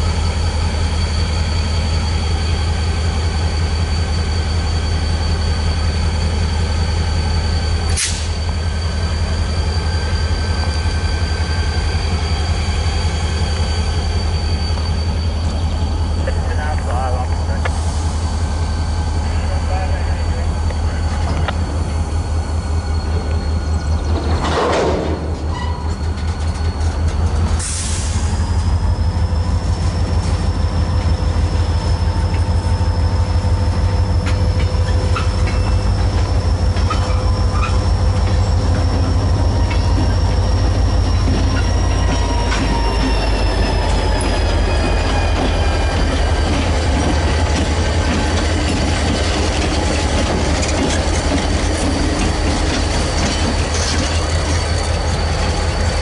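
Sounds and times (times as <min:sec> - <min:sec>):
train rumble: 0:00.0 - 0:56.0
train wheels squealing: 0:00.0 - 0:56.0.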